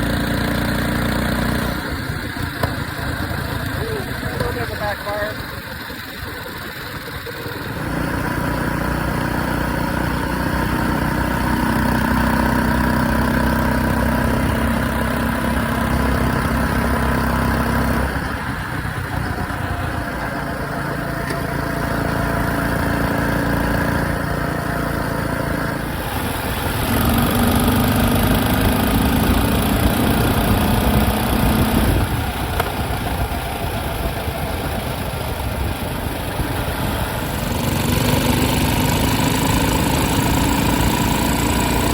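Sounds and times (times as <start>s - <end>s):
minibike engine revving: 0.0s - 41.9s.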